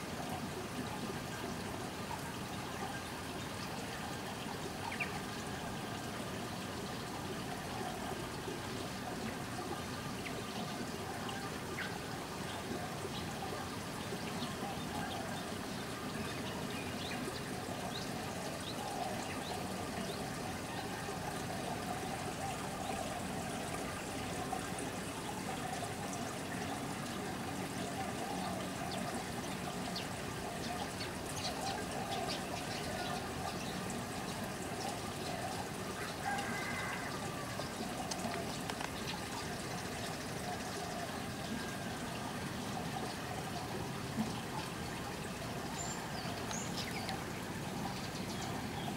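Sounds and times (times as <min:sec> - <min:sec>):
water feature trickling and splashing: 0:00.0 - 0:48.9.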